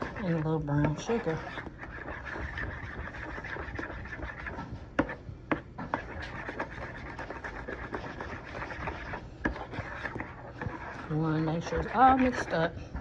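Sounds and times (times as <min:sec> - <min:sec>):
metal utensil scraping bowl: 0:00.0 - 0:12.8.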